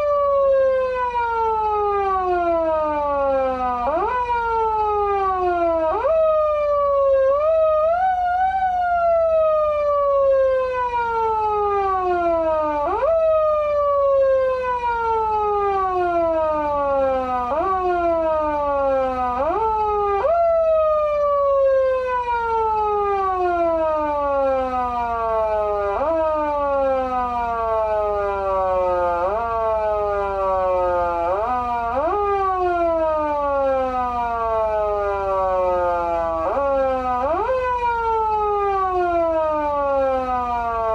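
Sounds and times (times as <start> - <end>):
electronic police siren wailing: 0.0 - 40.9.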